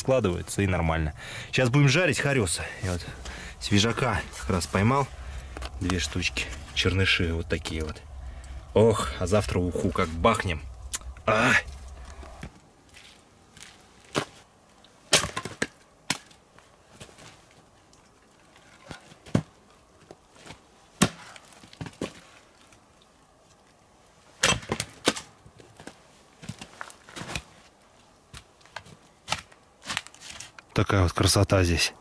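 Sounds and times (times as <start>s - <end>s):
firewood crackling in a stove: 0.0s - 15.1s, 15.7s - 31.4s.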